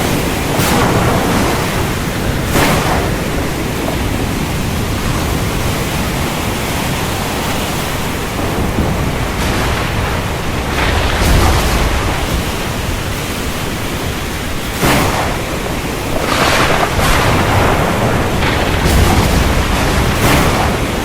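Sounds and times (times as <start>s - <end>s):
deep thunder rumble: 0.0s - 21.0s
rain rushing noise: 0.0s - 21.0s.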